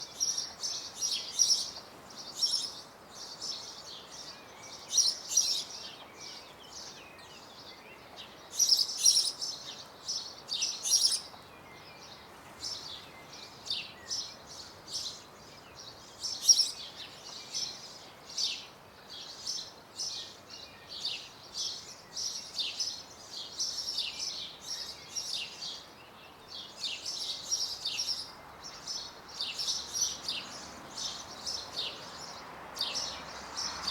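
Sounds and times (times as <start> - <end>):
faint steady background hiss: 0.0 - 33.9
songbirds twittering: 0.0 - 33.9.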